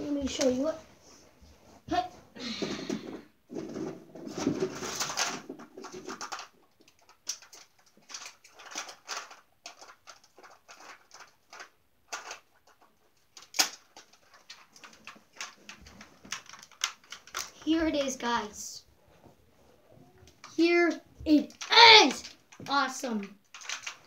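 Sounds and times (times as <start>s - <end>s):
objects being handled: 0.2s - 24.0s.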